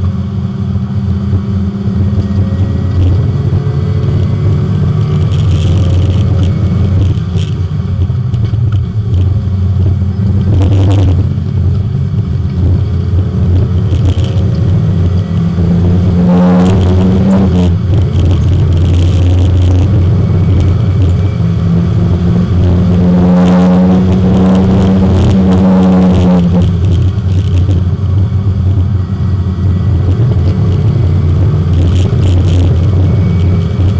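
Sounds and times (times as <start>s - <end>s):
race car engine from inside cabin: 0.0s - 33.9s.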